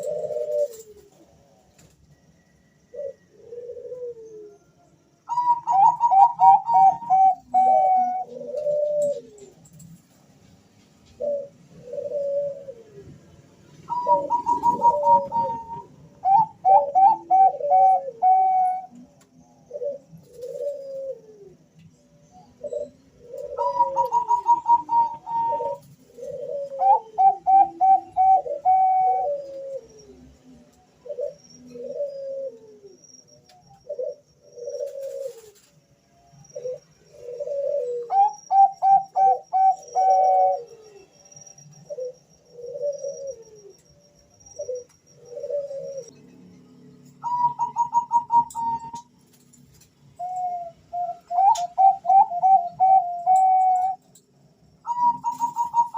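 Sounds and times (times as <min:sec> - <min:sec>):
doves cooing: 0:00.0 - 0:10.3, 0:11.0 - 0:46.4, 0:47.0 - 0:54.2, 0:54.8 - 0:55.9.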